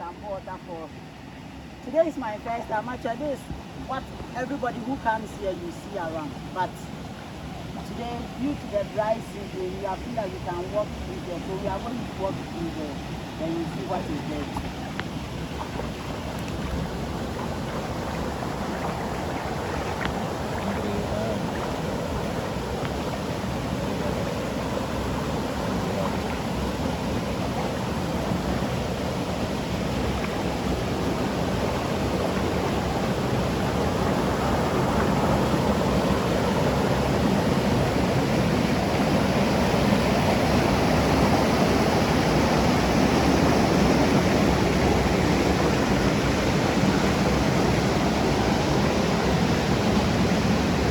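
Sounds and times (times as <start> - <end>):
waterfall rushing: 10.2 - 50.9.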